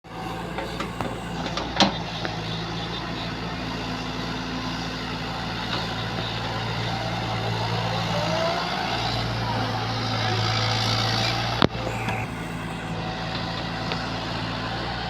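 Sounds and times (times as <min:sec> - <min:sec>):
heavy machine engine running: 0:00.0 - 0:15.0.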